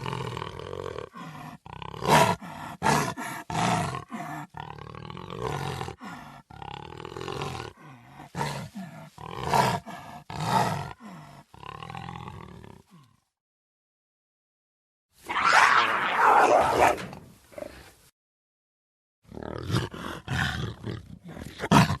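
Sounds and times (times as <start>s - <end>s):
big cat roaring: 0.0s - 13.2s, 15.3s - 17.8s, 19.3s - 22.0s.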